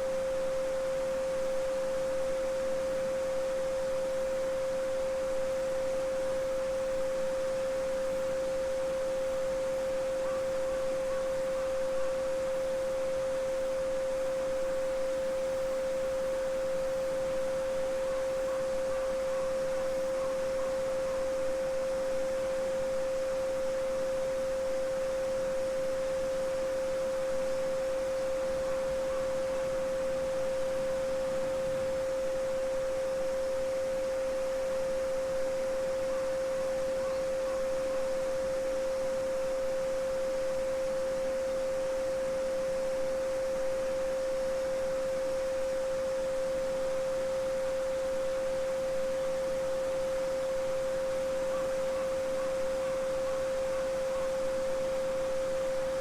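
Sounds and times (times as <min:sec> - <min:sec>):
steady sine tone: 0:00.0 - 0:56.0.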